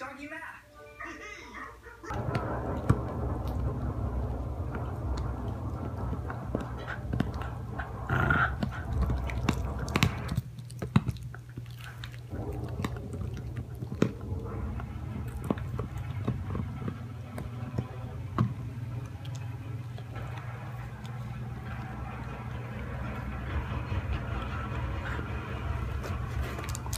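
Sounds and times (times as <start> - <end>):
low hum: 2.0 - 26.9
dog chewing and gnawing: 2.2 - 26.9.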